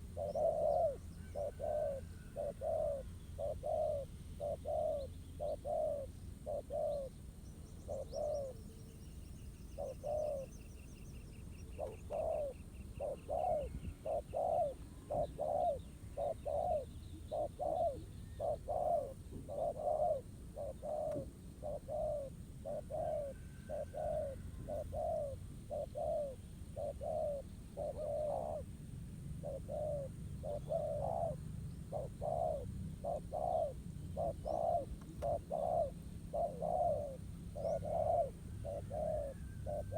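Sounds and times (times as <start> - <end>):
small bird twittering: 0.0 - 28.6, 29.4 - 39.9
doves cooing: 0.0 - 39.9.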